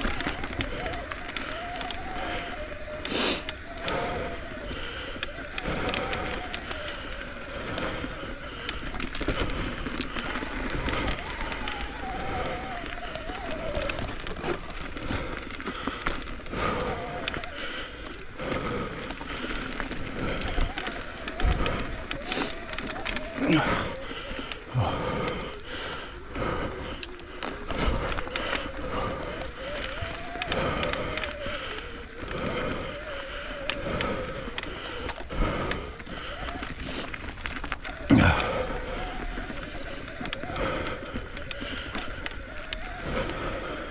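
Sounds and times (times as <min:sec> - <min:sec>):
bike rattling: 0:00.0 - 0:43.9
tyres crunching on gravel: 0:00.0 - 0:43.9.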